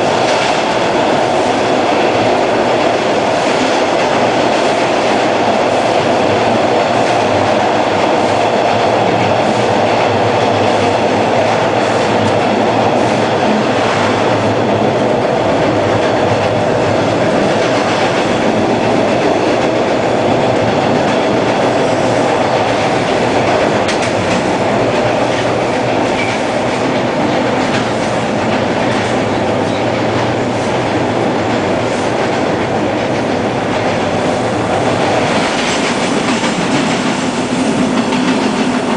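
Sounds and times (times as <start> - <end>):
subway wheels rumbling on track: 0.0 - 38.9.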